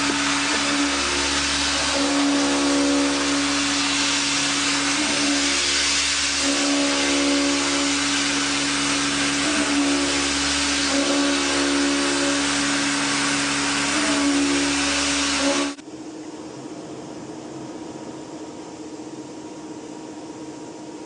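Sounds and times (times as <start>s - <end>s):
cnc machine hissing and humming: 0.0s - 21.0s.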